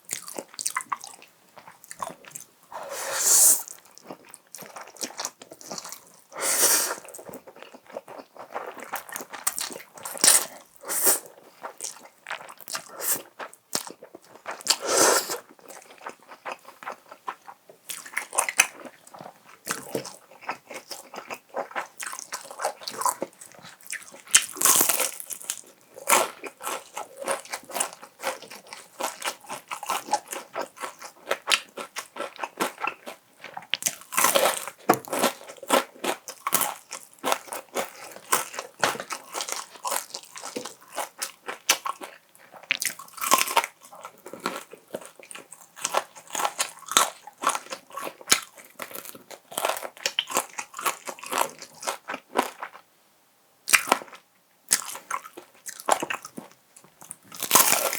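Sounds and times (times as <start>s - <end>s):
crunchy chewing of fried chicken: 0.0s - 52.9s, 53.7s - 57.9s.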